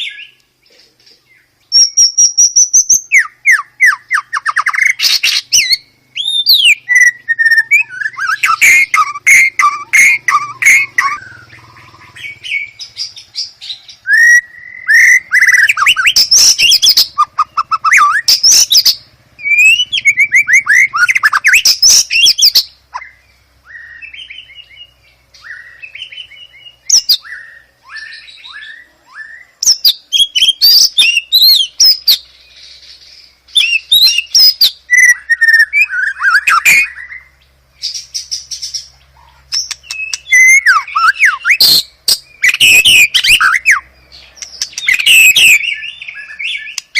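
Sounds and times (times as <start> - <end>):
bird singing whistles and trills: 0.0 - 46.9
faint low hum: 0.0 - 46.9.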